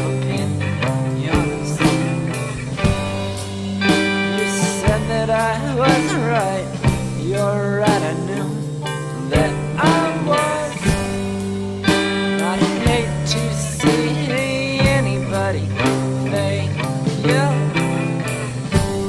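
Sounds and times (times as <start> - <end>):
indie rock guitars: 0.0 - 19.0
slow beat: 0.0 - 19.0.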